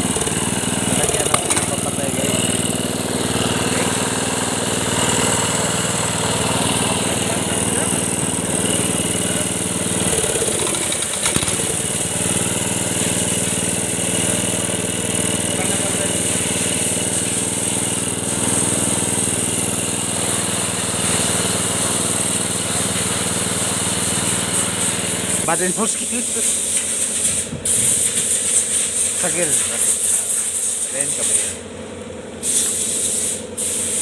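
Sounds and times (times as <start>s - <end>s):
small gasoline engine running: 0.0s - 34.0s.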